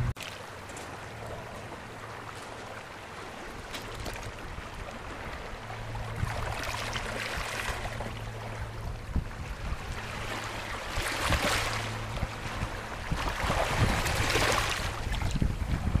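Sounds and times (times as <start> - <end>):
low steady rumble: 0.0 - 16.0
waves lapping on stony shore: 0.0 - 16.0.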